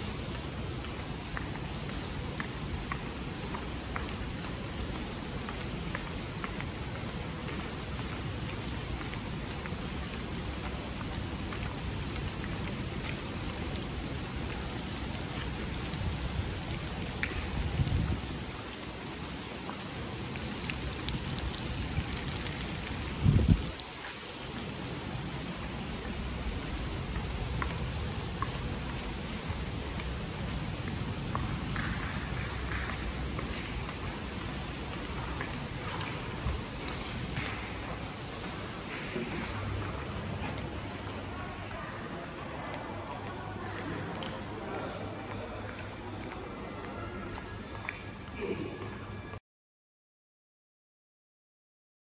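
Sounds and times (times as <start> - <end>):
rain falling: 0.0 - 42.6.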